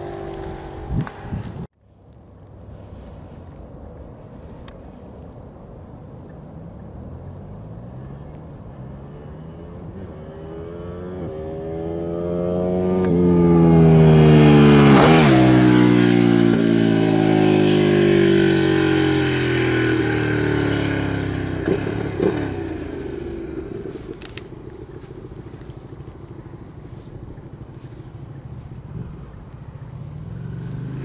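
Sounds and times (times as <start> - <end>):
motorcycle engine accelerating: 0.0 - 1.7, 7.2 - 31.0.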